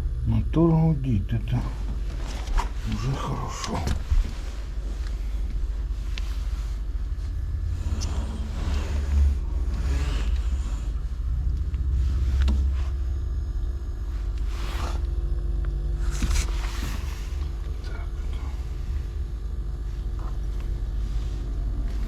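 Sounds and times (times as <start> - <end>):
refrigerator compressor humming: 0.0 - 22.0.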